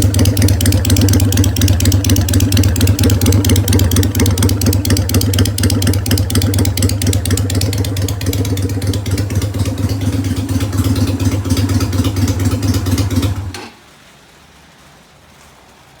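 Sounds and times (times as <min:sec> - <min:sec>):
motorcycle exhaust pulses: 0:00.0 - 0:13.8.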